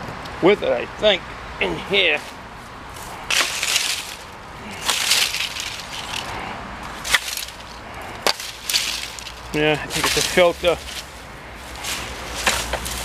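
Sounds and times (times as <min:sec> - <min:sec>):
vines and grass rustling: 0:01.7 - 0:13.0.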